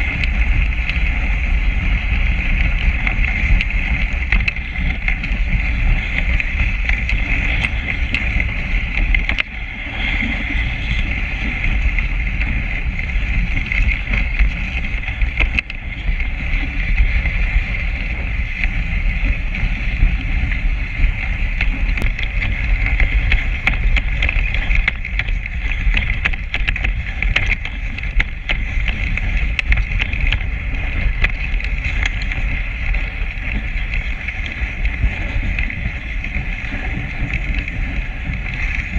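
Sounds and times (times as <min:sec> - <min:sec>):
sled rig rushing over snow: 0:00.0 - 0:38.9
small clicks and rattles: 0:00.0 - 0:38.9
wind on microphone: 0:00.0 - 0:38.9.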